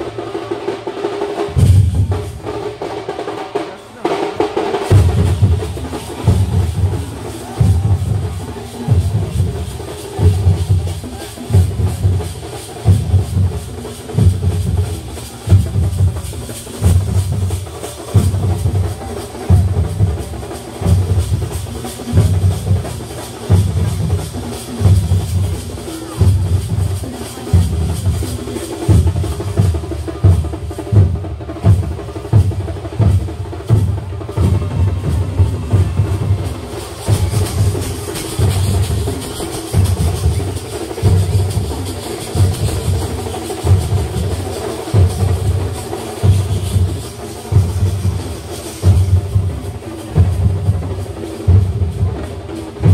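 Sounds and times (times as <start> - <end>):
big drums beating a driving rhythm: 0.0 - 52.9.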